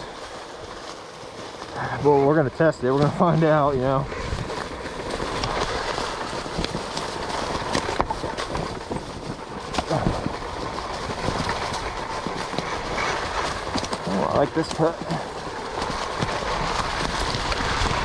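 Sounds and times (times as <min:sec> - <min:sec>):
knocks and clicks over rough ground: 0:00.0 - 0:18.0
tyre and wind noise: 0:00.0 - 0:18.0.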